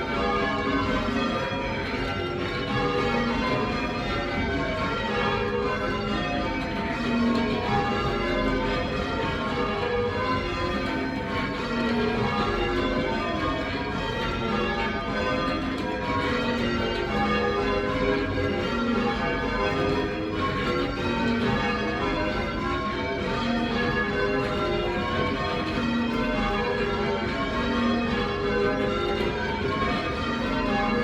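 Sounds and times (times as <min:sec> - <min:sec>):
church bells ringing changes: 0:00.0 - 0:31.0.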